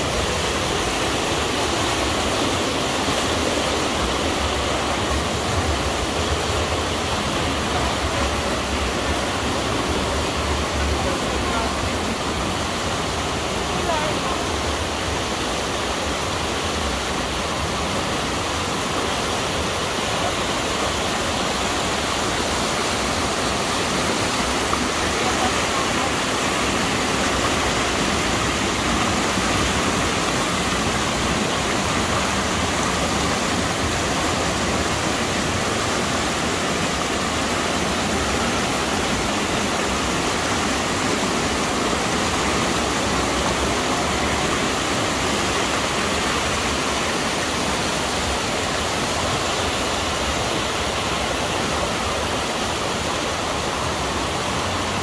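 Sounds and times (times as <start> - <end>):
fast-flowing water rushing: 0.0 - 55.0.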